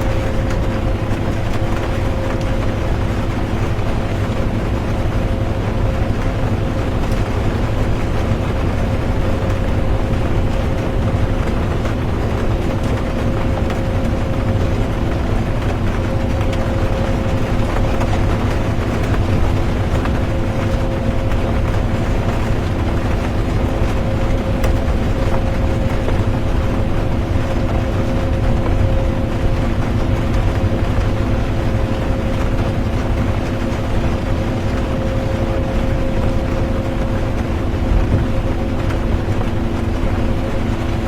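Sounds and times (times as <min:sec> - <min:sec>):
bus engine and road rumble: 0:00.0 - 0:41.0
drivetrain hum: 0:00.0 - 0:41.0.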